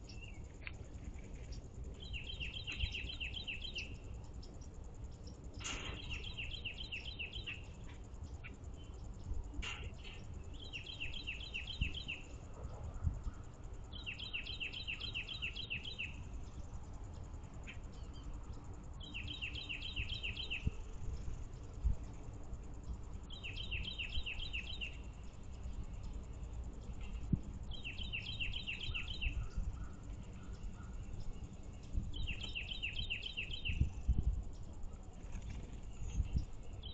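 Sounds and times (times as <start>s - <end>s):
low outdoor rumble: 0.0s - 36.9s
songbird singing: 0.0s - 36.9s.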